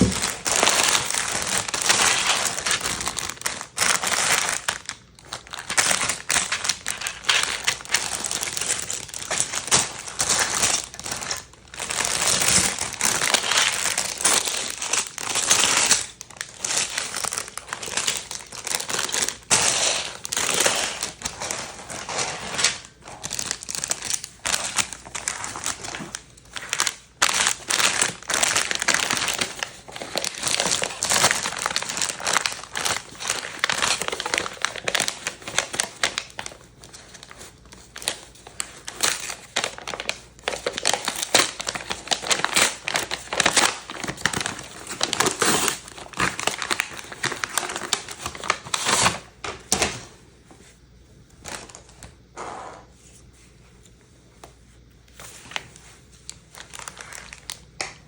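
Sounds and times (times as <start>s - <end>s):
plastic packaging crinkling: 0.0s - 50.1s, 51.4s - 52.2s, 54.8s - 58.0s.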